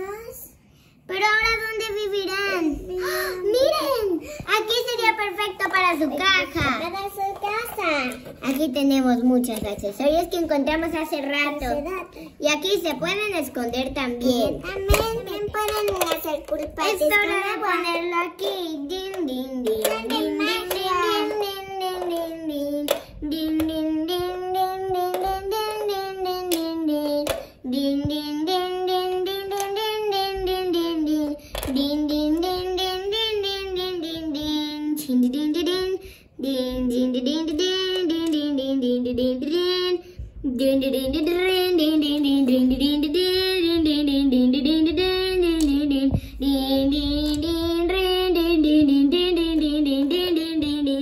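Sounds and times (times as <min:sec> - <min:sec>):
child singing: 0:01.1 - 0:51.0.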